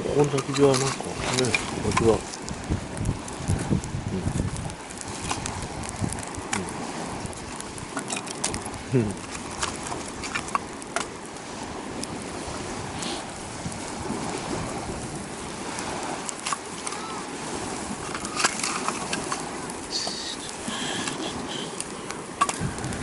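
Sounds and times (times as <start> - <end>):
rough lake waves: 0.0 - 23.0
sharp crackles and clicks: 0.0 - 23.0
strong wind: 0.0 - 23.0.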